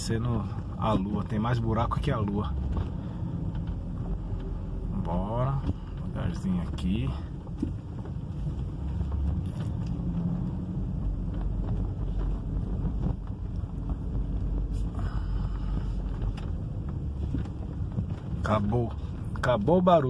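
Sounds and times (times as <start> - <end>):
road and engine noise in cabin: 0.0 - 20.0.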